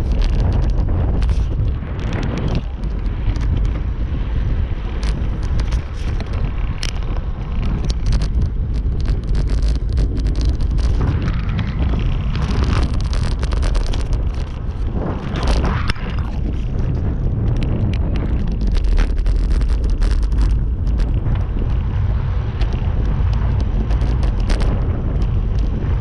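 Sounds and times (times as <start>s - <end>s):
tyre noise on asphalt: 0.0s - 26.0s
wind buffeting microphone: 0.0s - 26.0s.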